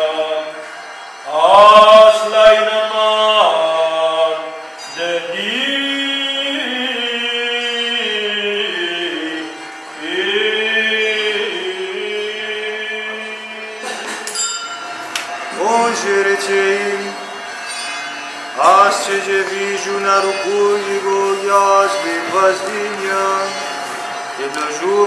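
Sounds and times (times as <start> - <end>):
men singing liturgical chant: 1.3 - 14.1, 15.5 - 17.4, 18.6 - 25.0.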